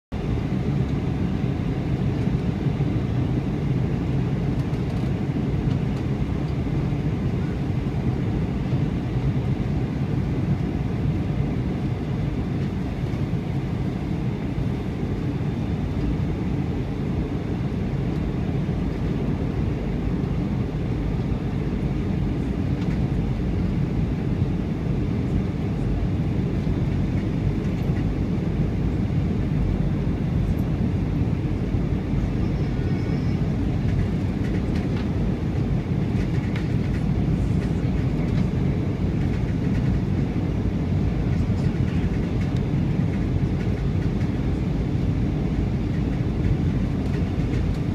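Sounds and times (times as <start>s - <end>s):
airliner cabin rumble: 0.1s - 47.9s.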